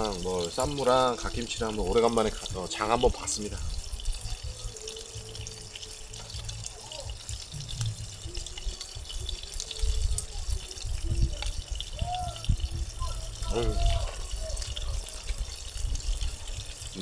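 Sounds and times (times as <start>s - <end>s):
meat sizzling on a grill pan: 0.0s - 17.0s.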